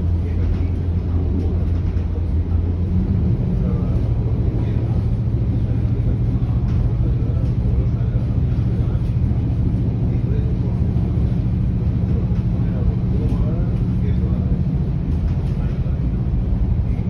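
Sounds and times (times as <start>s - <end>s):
train carriage rumbling: 0.0s - 17.0s.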